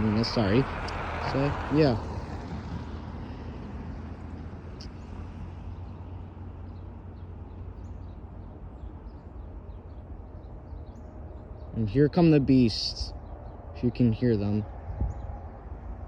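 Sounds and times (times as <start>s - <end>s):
distant diesel locomotives rumbling: 0.0s - 16.0s
small birds chirping: 0.0s - 16.0s.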